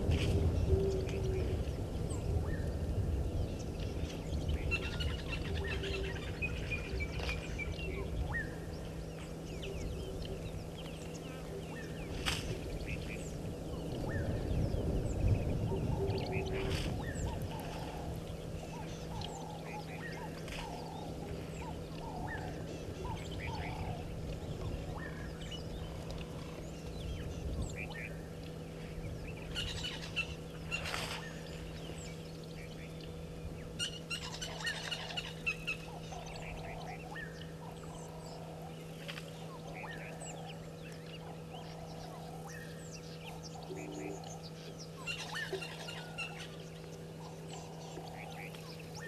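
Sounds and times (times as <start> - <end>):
birds chirping: 0.0 - 49.0
steady low hum: 0.0 - 49.0.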